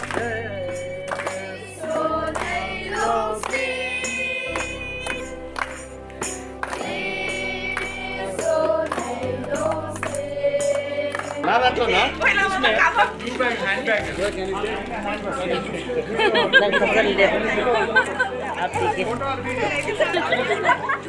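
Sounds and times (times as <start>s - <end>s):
gospel voices singing: 0.0s - 21.0s.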